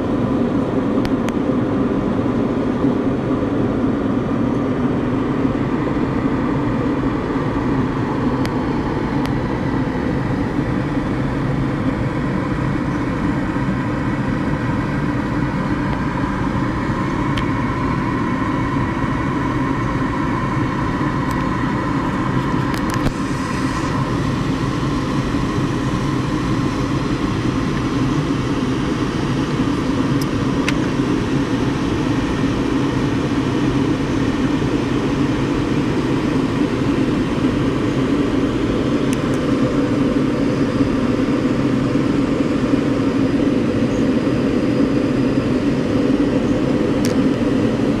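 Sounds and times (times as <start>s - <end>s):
air rushing over glider canopy: 0.0s - 48.0s.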